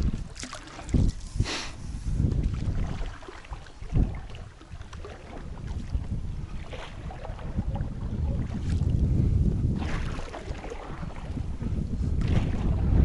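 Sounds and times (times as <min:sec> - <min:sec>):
faint water sounds: 0:00.0 - 0:13.0
wind rumbling on microphone: 0:00.0 - 0:13.0.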